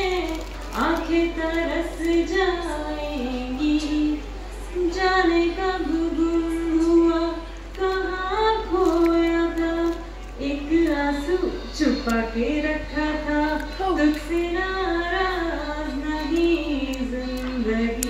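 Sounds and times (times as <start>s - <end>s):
woman singing slow melody: 0.0s - 18.0s.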